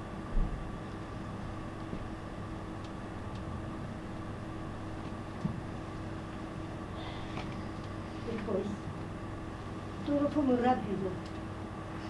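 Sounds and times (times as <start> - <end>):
ventilation hum: 0.0 - 12.0.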